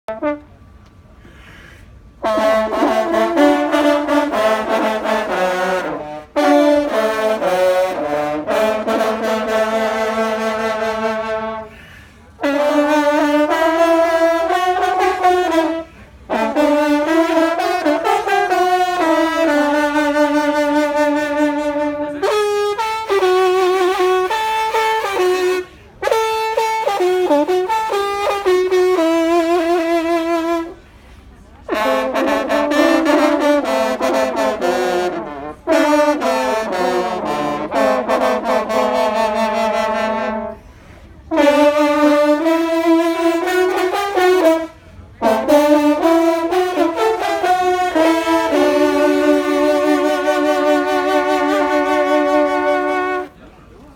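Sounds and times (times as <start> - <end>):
brass instruments playing: 0.0 - 30.9, 31.5 - 53.4.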